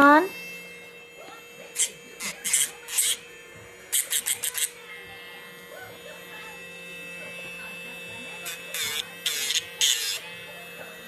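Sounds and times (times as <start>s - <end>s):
grinding bursts on claw: 0.0s - 11.0s
pet nail grinder humming: 0.0s - 11.0s.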